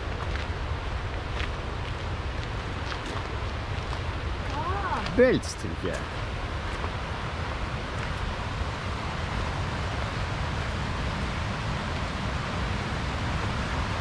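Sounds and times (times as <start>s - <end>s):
river rapids rushing: 0.0s - 14.0s.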